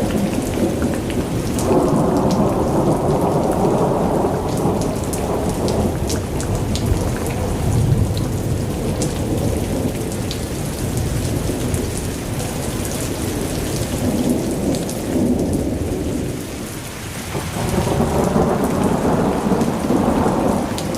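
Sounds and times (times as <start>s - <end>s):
heavy rain falling: 0.0s - 20.9s
rolling thunder rumble: 0.0s - 20.9s.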